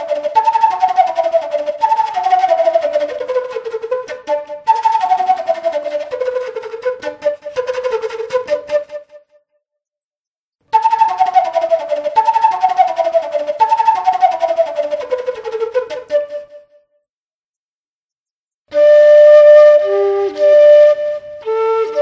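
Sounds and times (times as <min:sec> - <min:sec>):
bamboo flute melody: 0:00.0 - 0:09.4, 0:10.7 - 0:17.0, 0:18.7 - 0:22.0.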